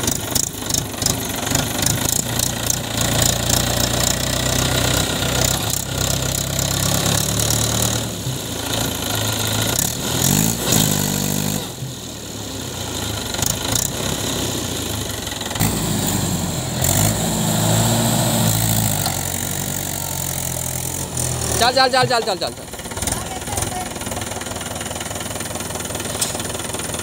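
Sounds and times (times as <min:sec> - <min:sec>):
tractor diesel engine revving: 0:00.0 - 0:27.0.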